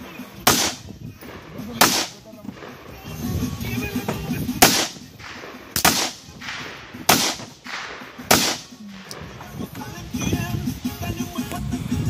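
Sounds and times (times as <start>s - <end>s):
rifle shots with echo: 0.0s - 9.8s.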